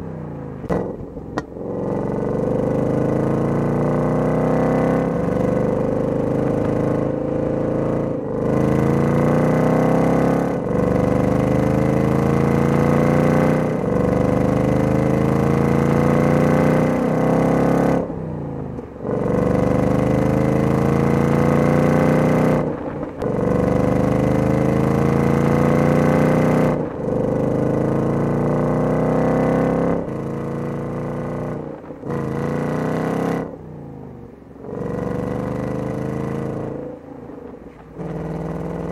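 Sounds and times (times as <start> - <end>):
car exhaust revving hard: 0.7 - 18.1, 19.0 - 33.5, 34.6 - 36.9, 38.0 - 38.9.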